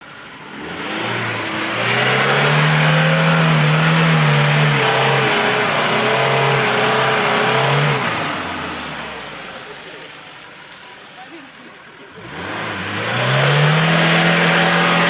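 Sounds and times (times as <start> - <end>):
car engine revving hard: 0.0 - 10.0, 12.0 - 15.0.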